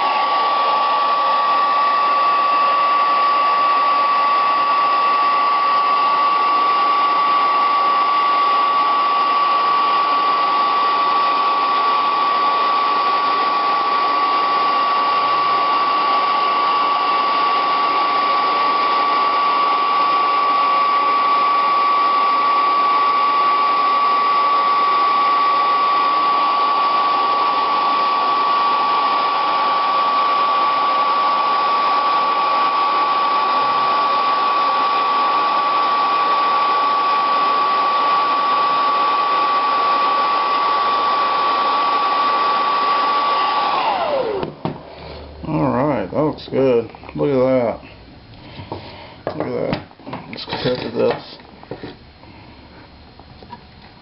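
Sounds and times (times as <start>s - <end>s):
hair dryer running: 0.0s - 47.7s.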